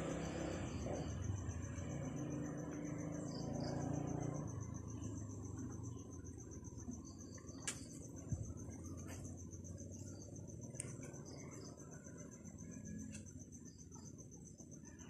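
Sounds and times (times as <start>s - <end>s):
pulsing high insect trill: 0.0s - 15.0s
vehicle engine hum: 0.0s - 15.0s.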